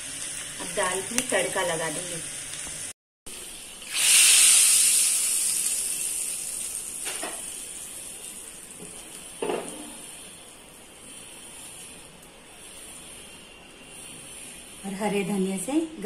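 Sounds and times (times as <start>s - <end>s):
hot oil sizzling on dal: 0.0s - 16.0s.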